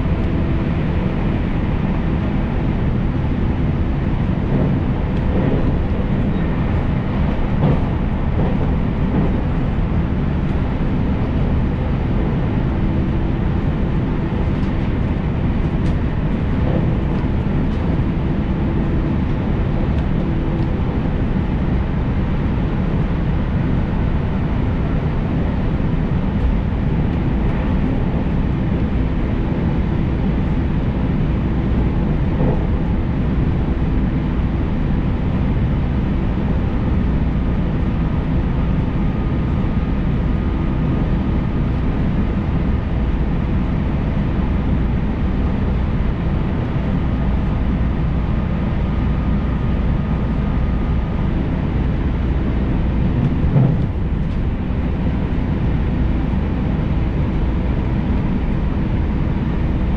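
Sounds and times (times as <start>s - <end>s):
electric train low rumble: 0.0s - 59.9s.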